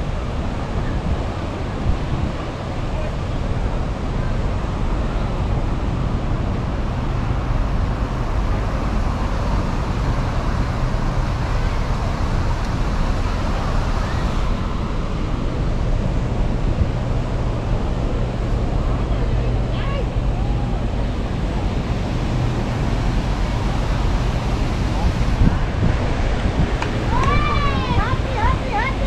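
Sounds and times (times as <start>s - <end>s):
sea surf on beach: 0.0s - 29.0s
wind buffeting microphone: 0.0s - 29.0s.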